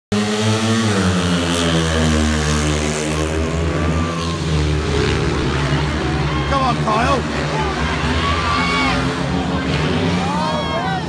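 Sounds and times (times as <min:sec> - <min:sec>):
motorcycle engines at full throttle: 0:00.1 - 0:11.0.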